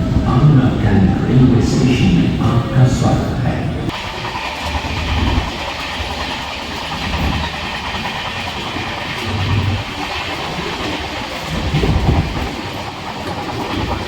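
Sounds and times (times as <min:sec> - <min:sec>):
train rumble and rail noise: 0:00.0 - 0:14.0.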